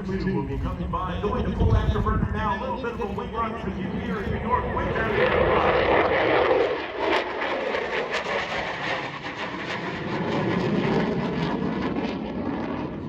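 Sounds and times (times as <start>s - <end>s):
fighter jet passing: 0.0s - 13.0s.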